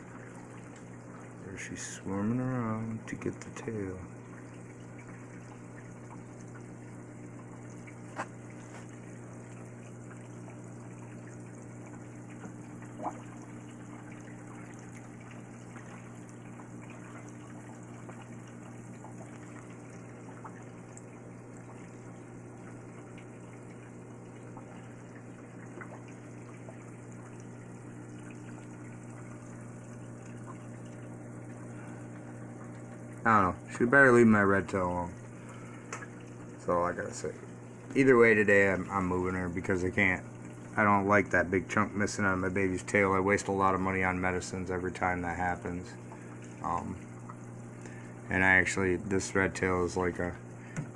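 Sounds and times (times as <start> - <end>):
filter pump humming: 0.0 - 50.9
water trickling and splashing: 0.0 - 50.9.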